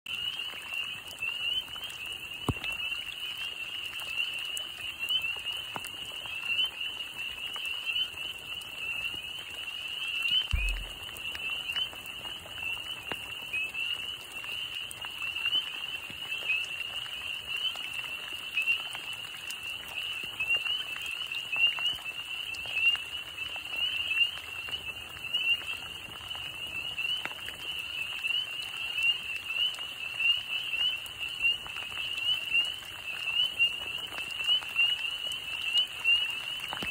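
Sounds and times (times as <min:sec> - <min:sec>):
chorus of frogs calling: 0:00.2 - 0:36.9.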